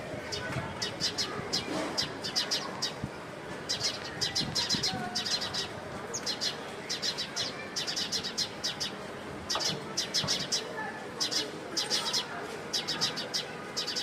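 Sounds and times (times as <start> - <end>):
sparrows chirping: 0.3 - 14.0.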